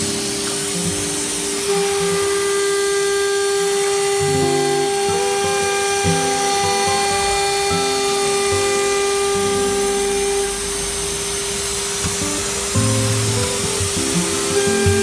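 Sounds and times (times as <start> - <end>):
spindle whining at high pitch: 0.0 - 15.0.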